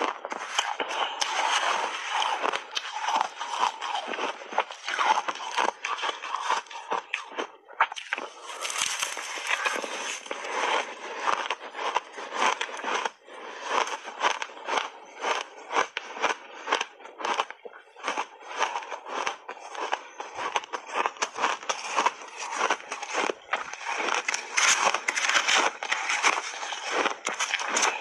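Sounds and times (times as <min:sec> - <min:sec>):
ice being chewed: 0:00.0 - 0:28.0.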